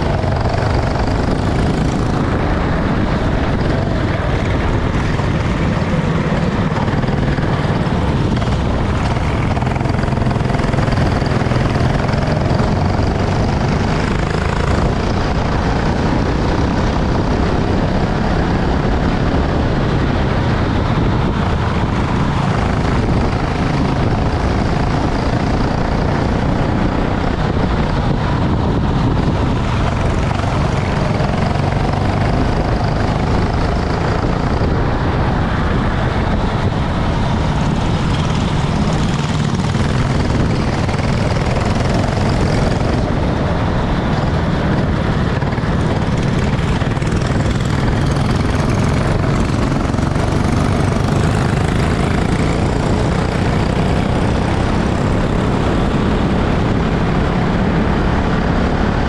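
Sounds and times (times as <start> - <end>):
dense noisy wash: 0.0 - 59.0
kart engine running: 0.0 - 59.0.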